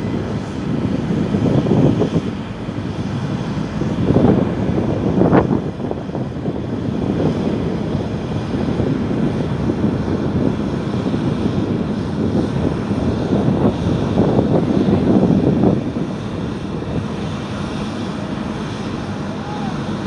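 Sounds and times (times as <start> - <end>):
jet engines at takeoff: 0.0 - 20.0.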